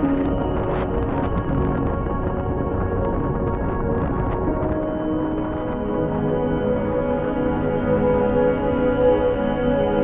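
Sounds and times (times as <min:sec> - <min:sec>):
ambient music with sustained tones: 0:00.0 - 0:10.0.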